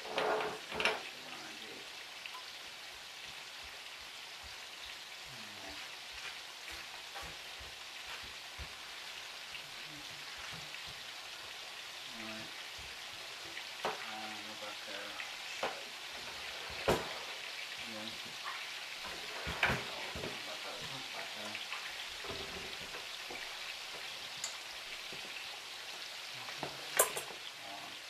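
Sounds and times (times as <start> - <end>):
meatballs sizzling in a pan: 0.6 - 28.0.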